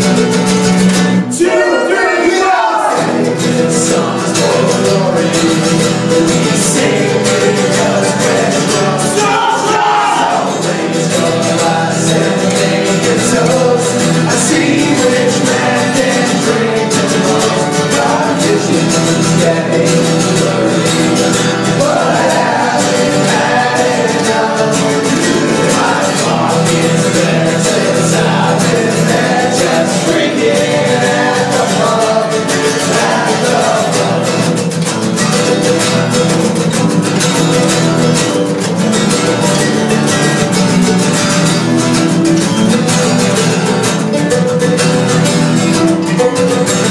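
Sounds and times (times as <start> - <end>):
acoustic guitars strumming: 0.0 - 46.9
mandolin strumming: 0.0 - 46.9
men singing together: 1.3 - 46.9.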